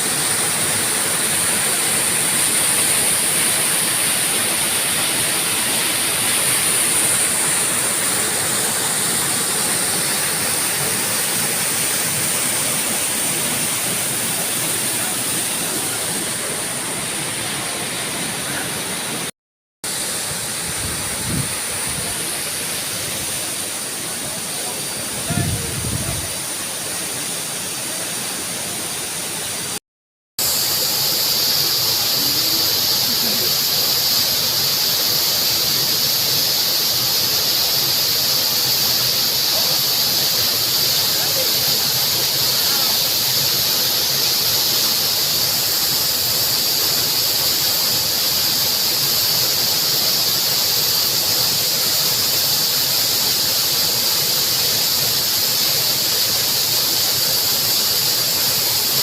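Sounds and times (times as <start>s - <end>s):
waterfall rushing: 0.0s - 19.3s, 19.9s - 29.8s, 30.4s - 59.0s.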